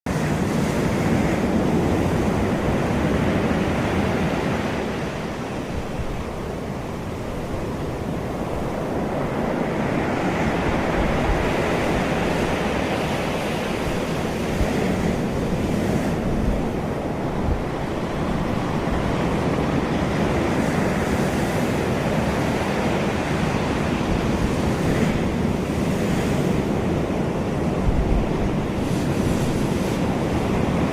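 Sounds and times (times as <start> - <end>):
sea waves breaking: 0.1 - 30.9
wind rumbling on microphone: 0.1 - 30.9.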